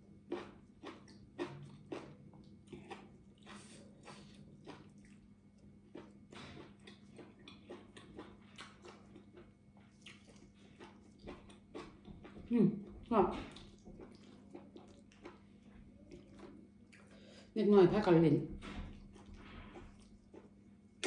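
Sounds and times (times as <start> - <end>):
wet chewing smacks and clicks: 0.3 - 17.2, 18.7 - 20.7.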